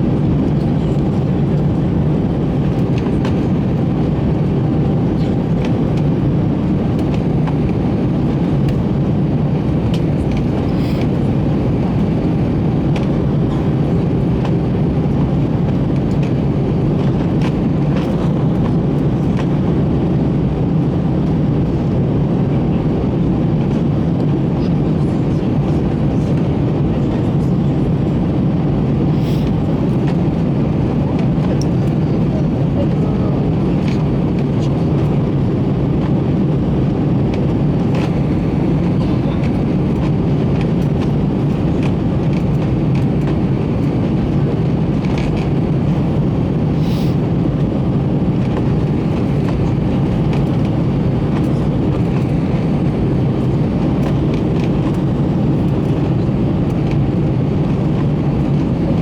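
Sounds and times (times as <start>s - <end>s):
airliner cabin engine and airflow noise: 0.0s - 59.0s.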